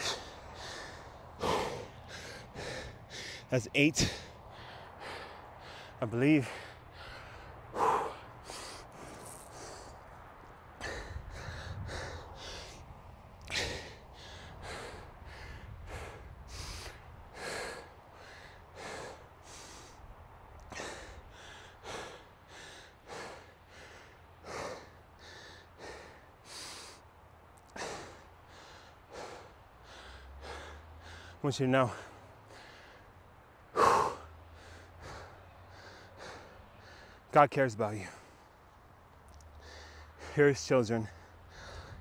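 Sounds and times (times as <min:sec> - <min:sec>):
man breathing hard: 0:00.0 - 0:38.7, 0:39.3 - 0:42.0.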